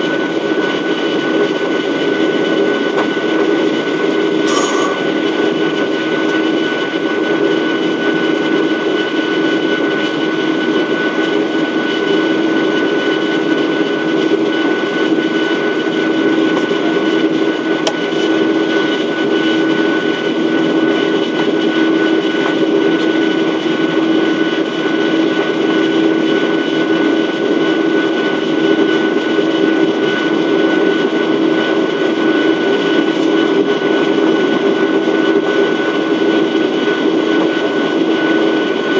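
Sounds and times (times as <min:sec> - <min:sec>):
jet engines in aircraft cabin: 0:00.0 - 0:38.9.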